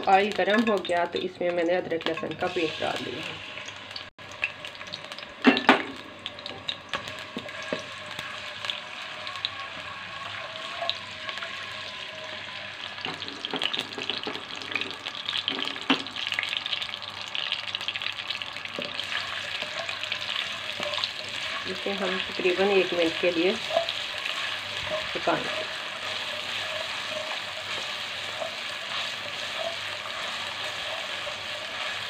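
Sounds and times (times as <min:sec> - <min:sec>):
paste sizzling in hot oil: 0:00.0 - 0:32.0.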